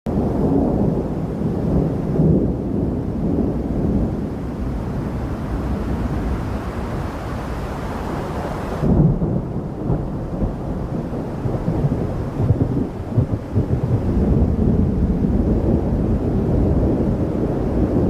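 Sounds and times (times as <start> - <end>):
thunder rumbling: 0.1 - 18.0
rain hiss: 0.5 - 18.0.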